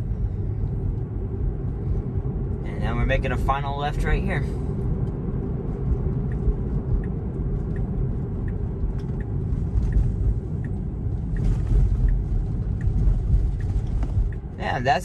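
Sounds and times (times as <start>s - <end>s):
road and tyre rumble: 0.0s - 15.0s
turn signal ticking: 0.0s - 15.0s.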